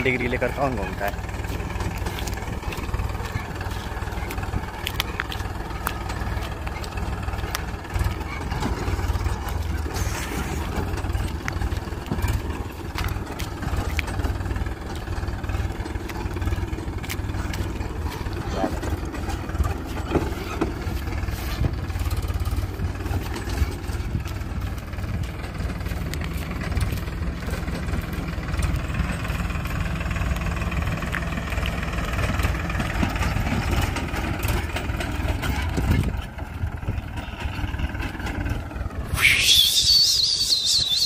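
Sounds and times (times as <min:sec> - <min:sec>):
tractor diesel engine under load: 0:00.0 - 0:41.0.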